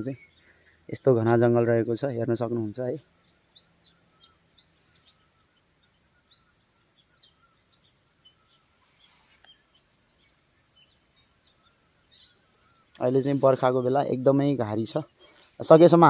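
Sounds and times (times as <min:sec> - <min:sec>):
faint bird chirps: 0:00.0 - 0:16.0
high-pitched insect drone: 0:00.0 - 0:16.0.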